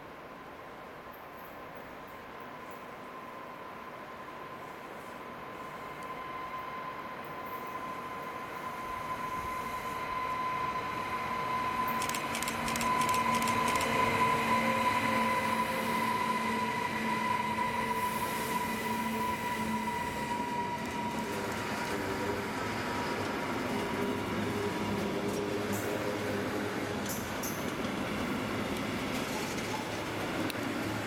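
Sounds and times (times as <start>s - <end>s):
electric locomotive whine: 0.3s - 31.0s.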